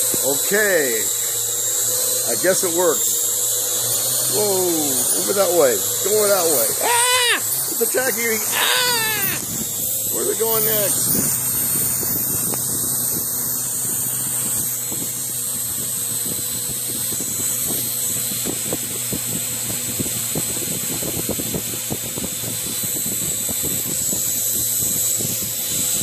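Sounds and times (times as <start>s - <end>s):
drone buzzing whine: 0.0s - 26.0s.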